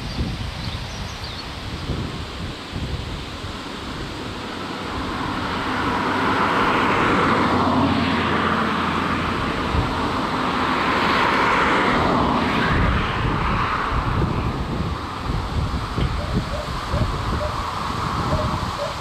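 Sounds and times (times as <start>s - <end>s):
rushing engine drone: 0.0s - 19.0s.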